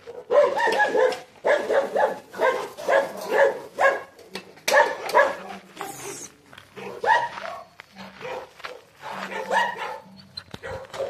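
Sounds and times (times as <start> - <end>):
dog barking: 0.0 - 5.6, 6.8 - 11.0.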